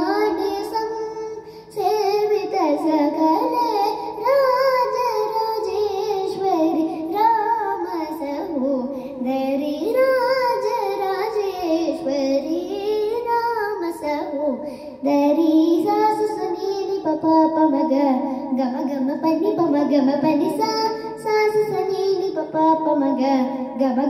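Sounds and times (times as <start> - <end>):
girl singing: 0.0 - 24.0.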